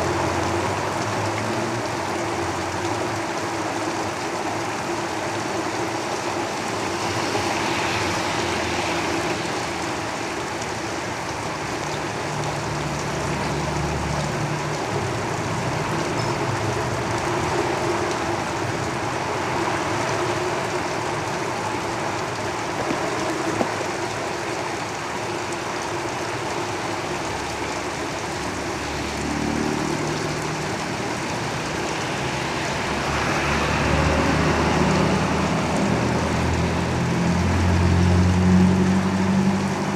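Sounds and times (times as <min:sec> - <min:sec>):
heavy rain on a tin roof: 0:00.0 - 0:39.9
road vehicles rumbling past: 0:00.0 - 0:39.9.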